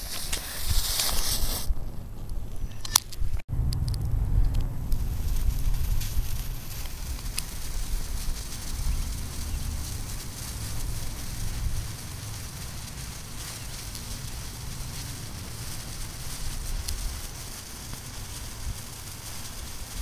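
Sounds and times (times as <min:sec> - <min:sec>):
flames hissing and crackling: 0:00.0 - 0:20.0
wind rumble on microphone: 0:00.0 - 0:20.0.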